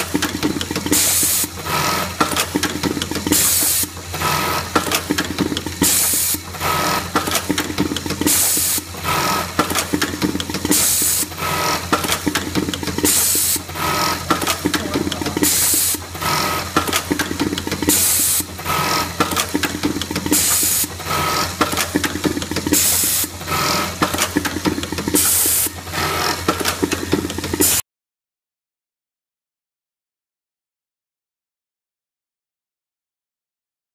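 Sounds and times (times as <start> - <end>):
machine hum: 0.0 - 27.7.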